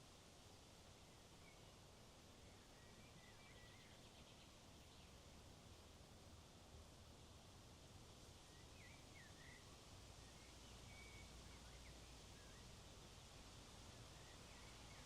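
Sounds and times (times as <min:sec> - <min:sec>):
faint steady wind: 0:00.0 - 0:15.0.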